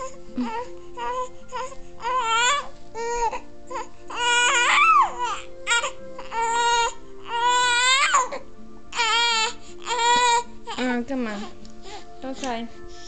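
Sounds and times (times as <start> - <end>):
newborn baby crying: 0.0 - 11.6.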